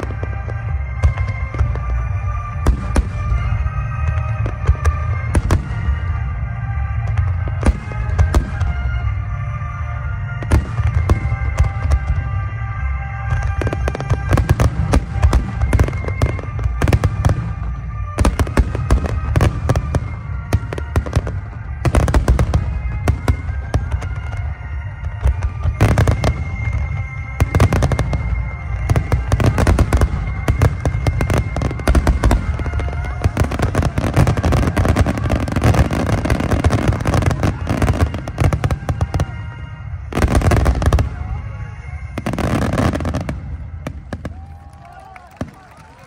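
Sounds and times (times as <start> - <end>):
fireworks crackling: 0.0 - 46.0.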